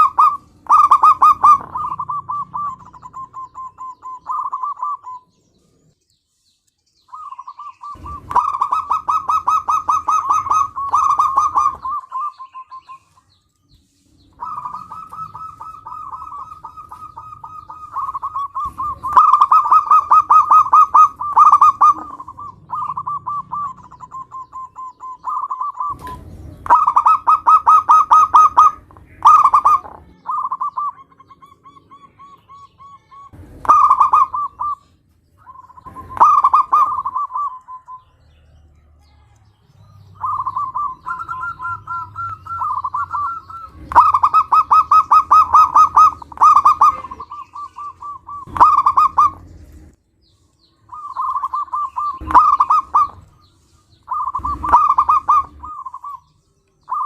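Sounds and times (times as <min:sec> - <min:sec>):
dove cooing: 0:00.0 - 0:05.4, 0:07.1 - 0:13.4, 0:14.2 - 0:38.2, 0:39.1 - 0:50.0, 0:50.9 - 0:57.0.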